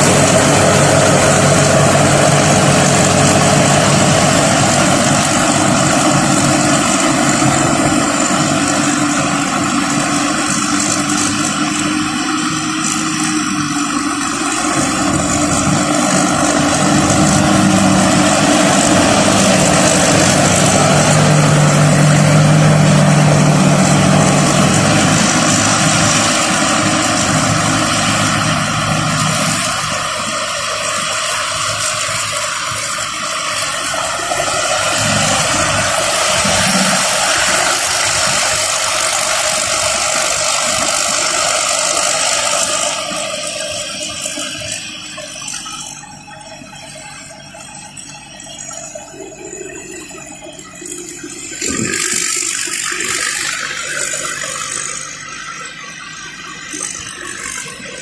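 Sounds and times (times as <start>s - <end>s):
combine harvester machinery: 0.0s - 58.0s
low engine hum: 0.0s - 58.0s.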